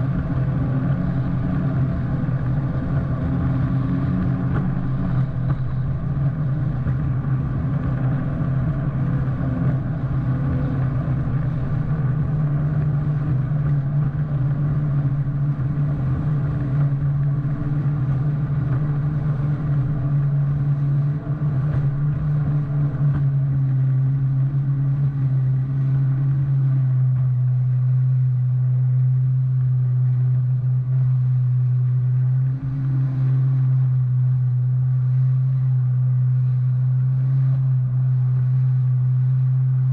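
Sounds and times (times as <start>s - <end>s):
personal watercraft engine drone: 0.0s - 39.9s
water and wind rushing: 0.0s - 39.9s.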